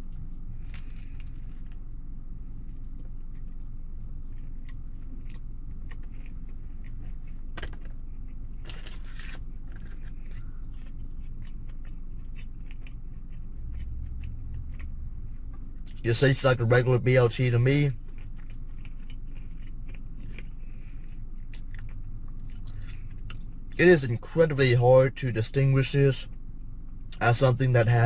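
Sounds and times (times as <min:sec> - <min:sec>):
crunchy chewing: 0:00.0 - 0:23.8
low rumble inside car: 0:00.0 - 0:28.0.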